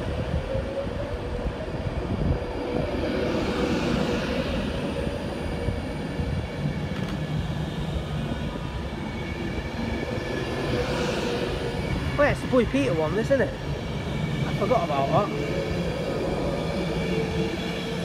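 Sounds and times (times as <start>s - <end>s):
electric train rolling past: 0.0s - 18.0s.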